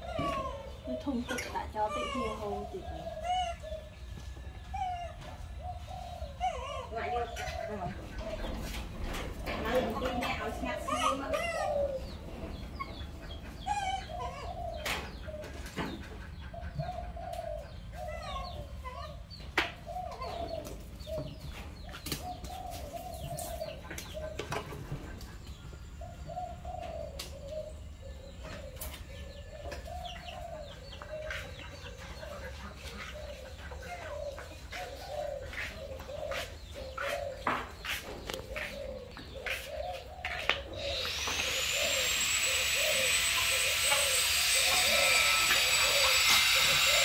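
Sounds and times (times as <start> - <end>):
doves cooing: 0.0 - 47.0.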